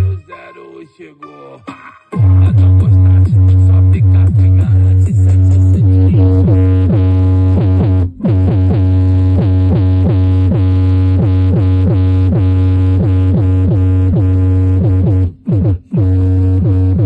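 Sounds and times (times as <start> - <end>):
deep bass drone: 0.0 - 0.2, 2.2 - 17.0.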